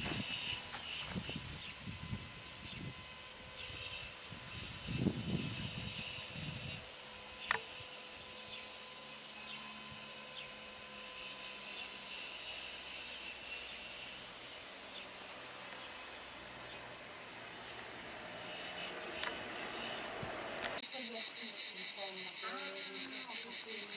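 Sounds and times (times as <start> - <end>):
insects chirping: 0.0 - 23.9.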